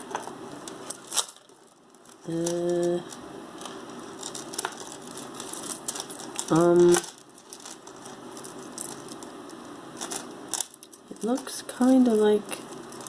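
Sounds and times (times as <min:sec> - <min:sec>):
metal jewelry clinking: 0:00.0 - 0:13.0.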